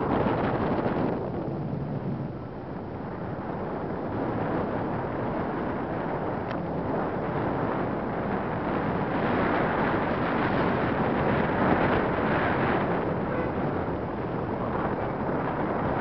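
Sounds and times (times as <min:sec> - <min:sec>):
wind blowing across microphone: 0:00.0 - 0:16.0.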